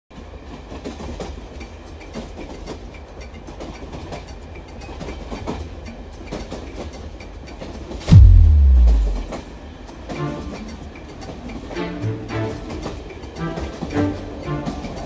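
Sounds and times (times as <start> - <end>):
wheels clicking over rail joints: 0.2 - 8.0, 9.8 - 15.0
train low rumble: 0.2 - 15.0.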